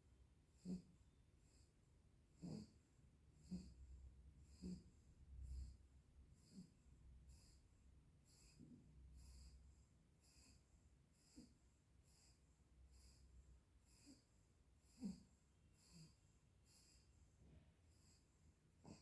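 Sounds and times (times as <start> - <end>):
dog breathing faintly: 0.4 - 19.0
dog snorting softly: 0.5 - 19.0.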